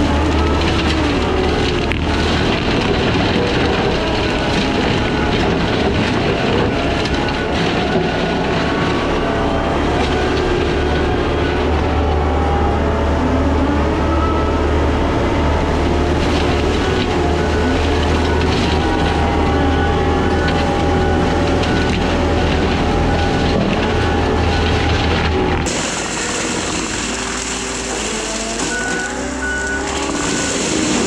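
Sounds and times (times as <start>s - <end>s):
machine drone with wavering whine: 0.0s - 31.0s.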